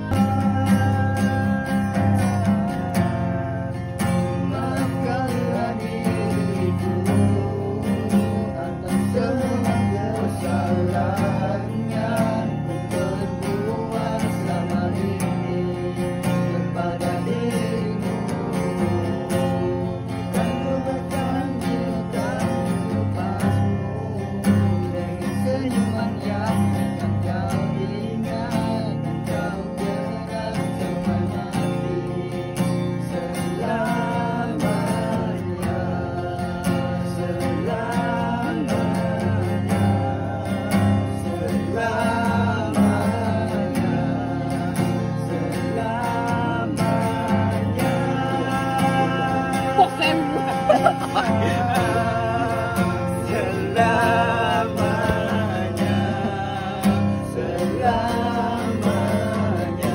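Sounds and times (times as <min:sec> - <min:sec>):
acoustic guitar strumming: 0:00.0 - 0:59.9
man singing: 0:00.0 - 0:59.9.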